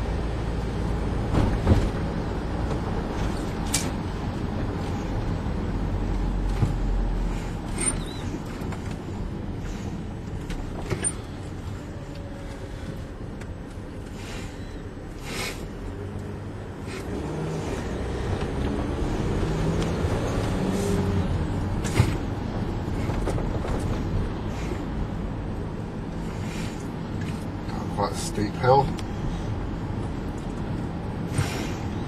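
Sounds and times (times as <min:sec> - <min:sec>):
van engine and road noise: 0:00.0 - 0:32.0.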